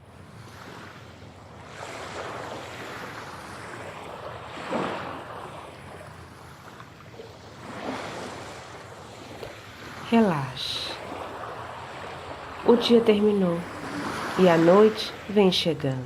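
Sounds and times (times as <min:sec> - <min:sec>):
sea waves breaking: 0:00.0 - 0:16.0.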